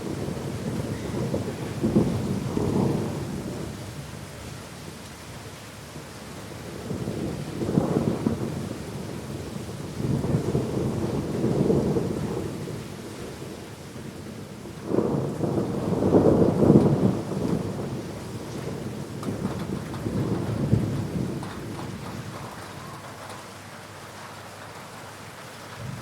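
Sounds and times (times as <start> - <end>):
rolling thunder: 0.0 - 4.2, 6.6 - 24.0, 25.7 - 26.0
steady rain: 0.0 - 26.0.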